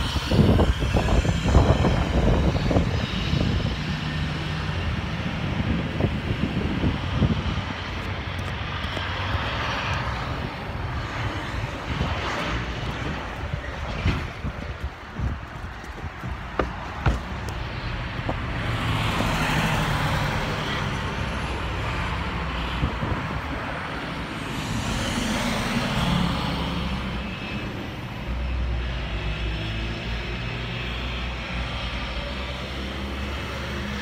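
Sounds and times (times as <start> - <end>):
bus diesel engine: 0.0 - 34.0
passing road traffic: 0.0 - 34.0.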